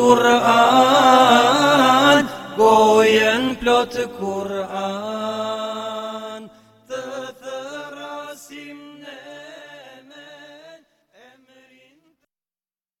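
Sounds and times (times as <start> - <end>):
person singing devotional song: 0.0 - 12.3.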